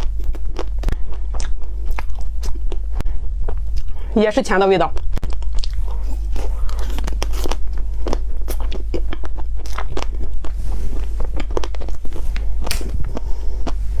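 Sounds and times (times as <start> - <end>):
chewing ice cream bar: 0.0 - 4.0, 4.9 - 13.8
steady low hum: 0.0 - 14.0.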